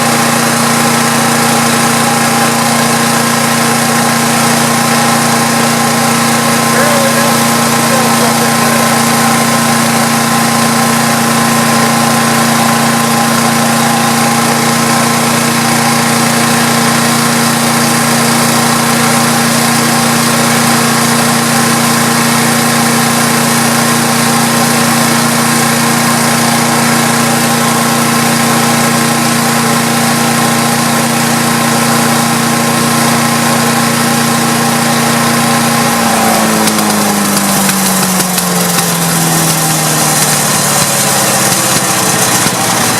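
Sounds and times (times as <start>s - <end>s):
chipper shredder engine running: 0.0s - 42.9s.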